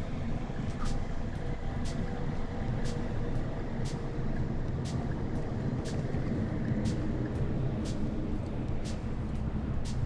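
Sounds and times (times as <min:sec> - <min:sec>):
engine and traffic rumble: 0:00.0 - 0:10.0.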